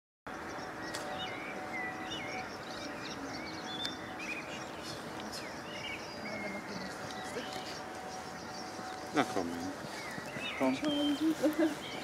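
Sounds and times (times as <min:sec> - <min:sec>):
outdoor background rush: 0:00.3 - 0:12.0
small birds chirping: 0:00.3 - 0:12.0.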